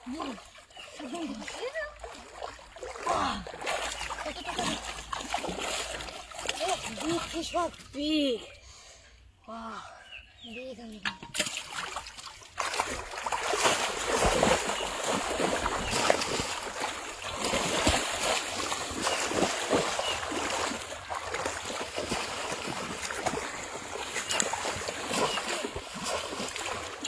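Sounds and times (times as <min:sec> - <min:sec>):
people wading through splashing water: 0:00.0 - 0:08.0, 0:11.4 - 0:27.0.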